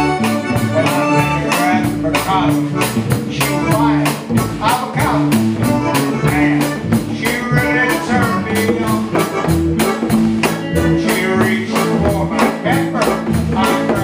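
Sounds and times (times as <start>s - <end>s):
drum kit beat with cymbals: 0.0s - 14.0s
live band music: 0.0s - 14.0s.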